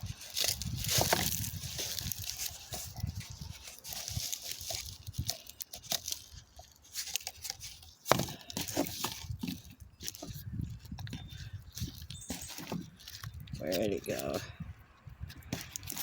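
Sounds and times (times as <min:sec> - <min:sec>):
soil rustling and scraping: 0:00.0 - 0:16.0.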